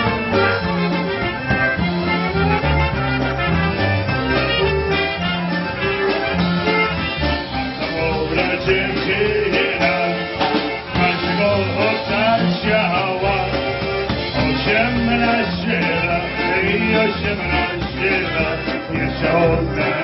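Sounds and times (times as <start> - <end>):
polka band playing: 0.0 - 20.0.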